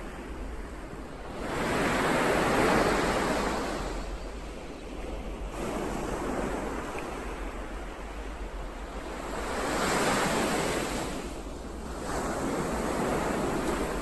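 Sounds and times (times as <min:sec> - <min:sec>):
ocean waves washing onto shore: 0:00.0 - 0:14.0.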